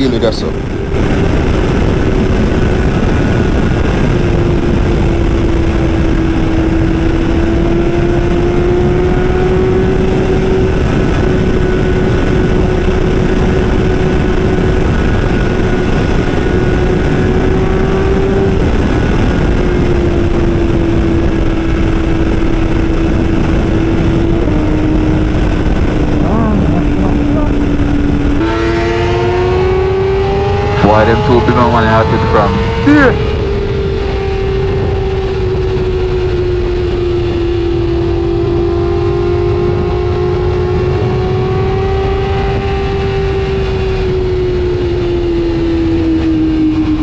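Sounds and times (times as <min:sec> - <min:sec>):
motorcycle engine droning: 0:00.0 - 0:47.0
wind rushing on microphone: 0:00.0 - 0:47.0.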